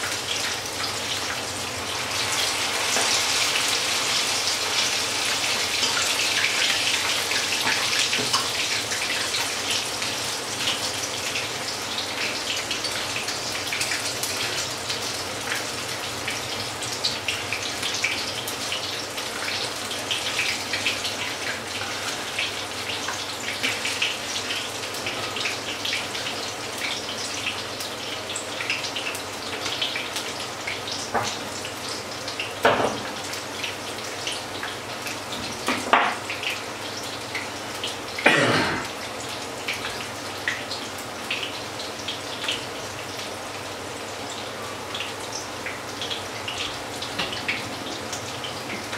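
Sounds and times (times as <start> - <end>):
batter sizzling in hot oil: 0.0 - 48.9.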